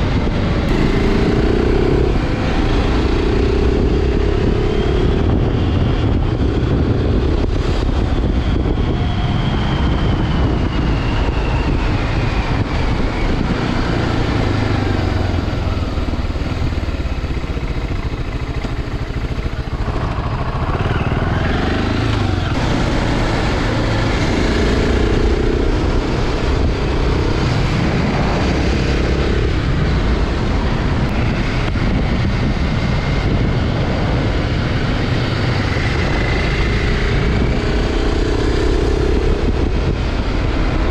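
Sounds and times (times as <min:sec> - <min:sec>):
motorcycle engine running: 0:00.0 - 0:10.8, 0:12.7 - 0:40.9.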